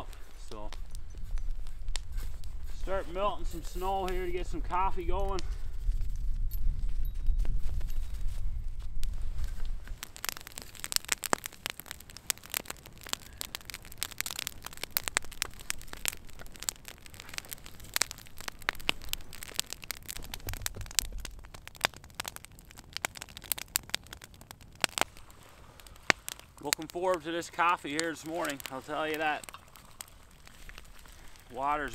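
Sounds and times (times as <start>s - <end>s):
campfire crackling: 0.0s - 31.9s.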